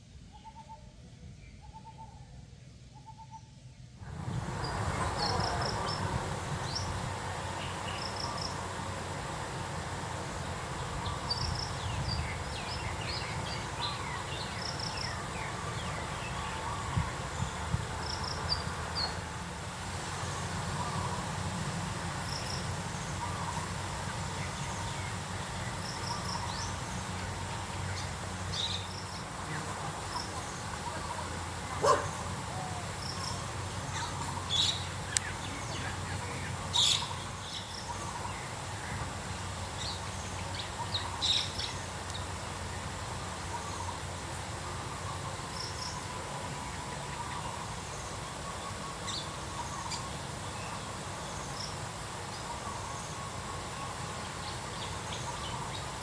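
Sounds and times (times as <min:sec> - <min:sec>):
steady low hum: 0:03.8 - 0:56.0
small birds chirping: 0:04.0 - 0:56.0.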